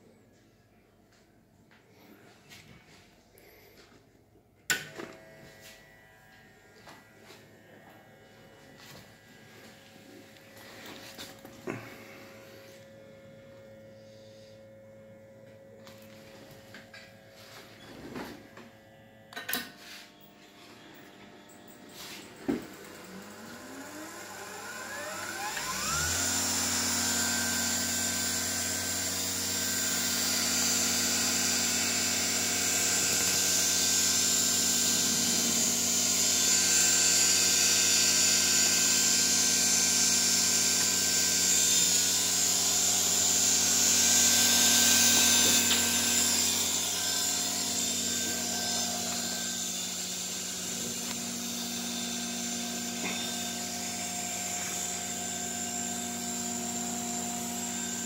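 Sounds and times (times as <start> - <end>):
dynamotor whining and humming: 4.6 - 58.0.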